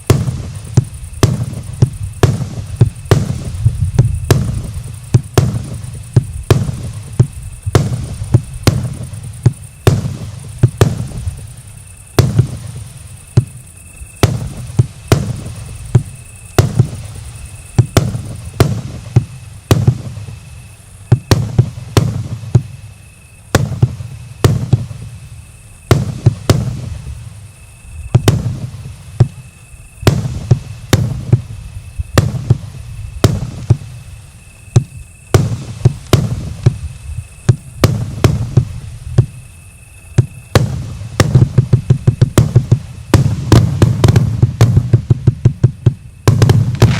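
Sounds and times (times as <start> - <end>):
firework bangs with low rumble: 0.0 - 46.9.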